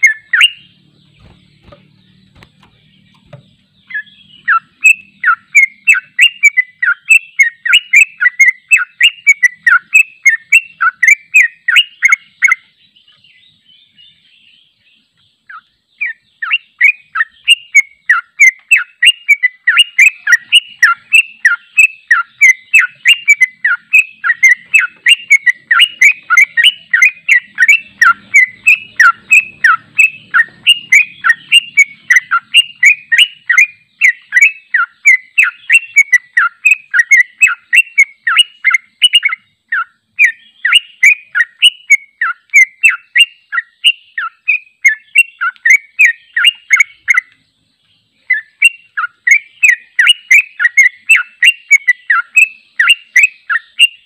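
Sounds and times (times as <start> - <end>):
bird singing chattering song: 0.0 - 54.0.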